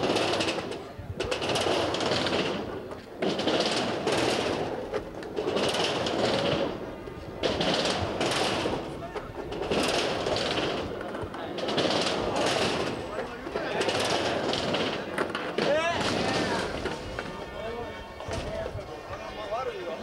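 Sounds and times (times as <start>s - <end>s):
skateboard wheels rolling on ramp: 0.0s - 20.0s.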